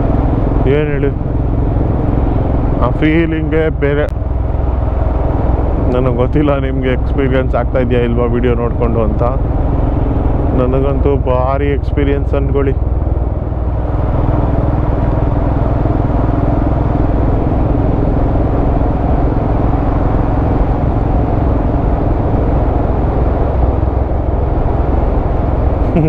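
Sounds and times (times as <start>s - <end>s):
motorcycle engine cruising: 0.0s - 26.0s
wind and road noise: 0.0s - 26.0s.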